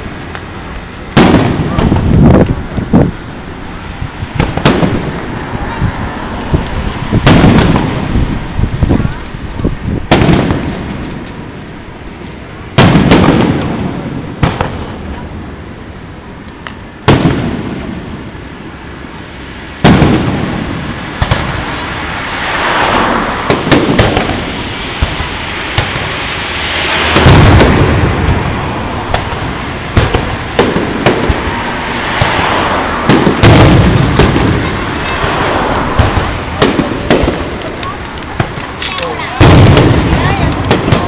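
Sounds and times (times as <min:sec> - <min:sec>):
firework bangs and crackles: 0:00.0 - 0:41.0.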